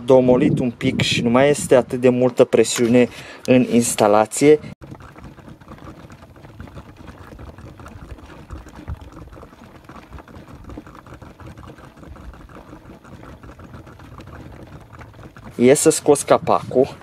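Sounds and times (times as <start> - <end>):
coolant boiling and gurgling: 3.1 - 17.0.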